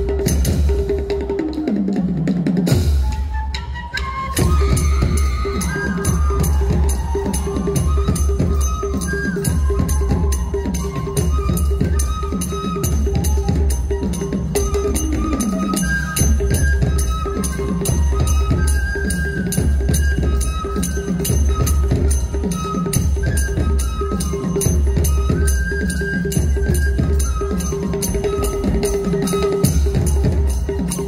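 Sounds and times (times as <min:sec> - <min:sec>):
hand drums beating: 0:00.0 - 0:03.2, 0:04.4 - 0:31.0
bamboo flute melody: 0:00.0 - 0:31.0.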